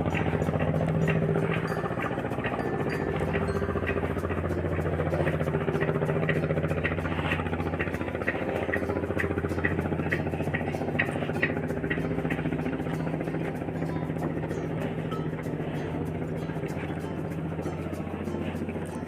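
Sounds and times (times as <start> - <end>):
boat engine running: 0.0 - 19.0
light regular ticking: 0.0 - 19.0.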